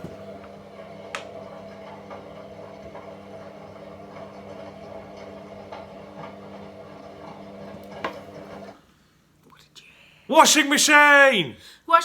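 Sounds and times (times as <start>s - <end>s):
washing machine humming: 0.0s - 9.4s, 10.3s - 12.0s.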